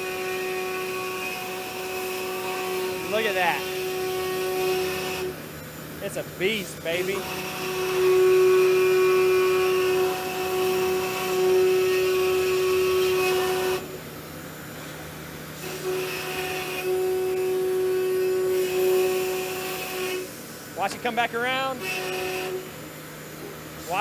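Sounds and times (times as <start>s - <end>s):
router spindle whining and cutting wood: 0.0s - 5.4s, 6.0s - 13.9s, 15.6s - 22.7s.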